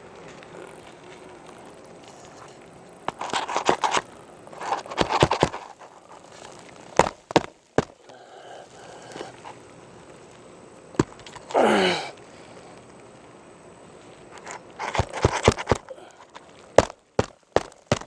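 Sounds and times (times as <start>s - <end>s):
shingle crackling and clicking: 0.0s - 18.0s.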